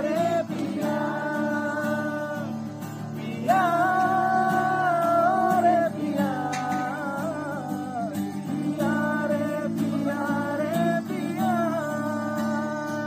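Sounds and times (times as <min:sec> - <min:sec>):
acoustic guitar chords: 0:00.0 - 0:13.0
person singing: 0:00.0 - 0:13.0.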